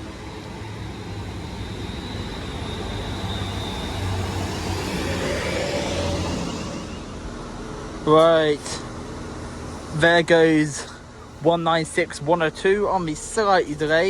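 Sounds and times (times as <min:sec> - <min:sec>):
faint high whine: 0:00.0 - 0:14.0
train running past: 0:00.0 - 0:14.0.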